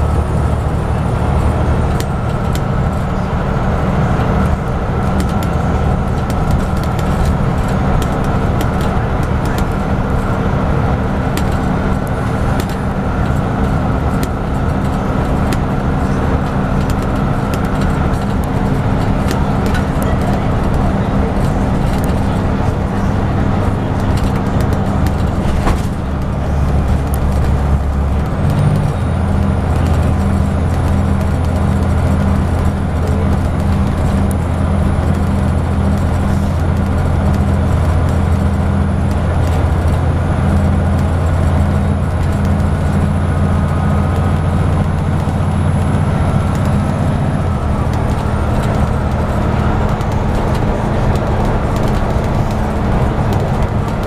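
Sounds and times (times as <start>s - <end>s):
bus engine drone: 0.0s - 54.0s
road and tyre noise: 0.0s - 54.0s.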